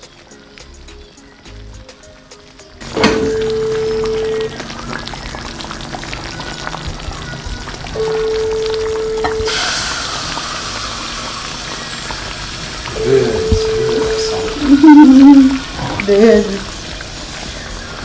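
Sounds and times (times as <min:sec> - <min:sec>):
background music held notes: 0:00.0 - 0:15.7
soup boiling and sizzling: 0:00.0 - 0:18.0.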